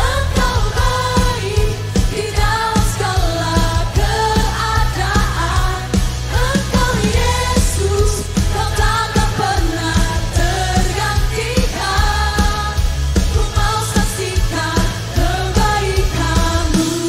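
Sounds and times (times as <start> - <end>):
band playing: 0.0 - 17.0
bass line: 0.0 - 17.0.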